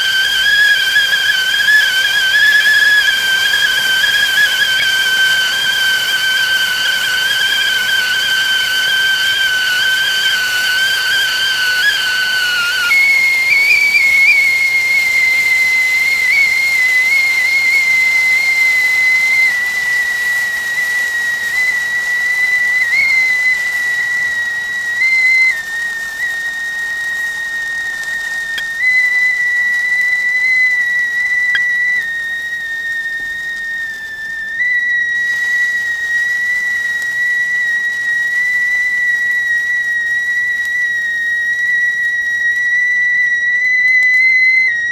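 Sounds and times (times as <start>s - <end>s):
steam hissing: 0.0s - 44.9s
teapot whistling: 0.0s - 44.9s.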